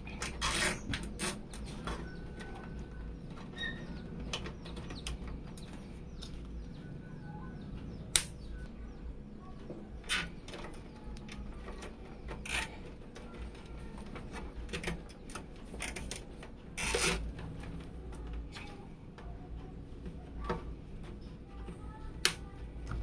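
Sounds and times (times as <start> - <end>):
computer parts clicking and rustling: 0.0 - 6.8, 10.0 - 23.0
steady low hum: 0.0 - 23.0.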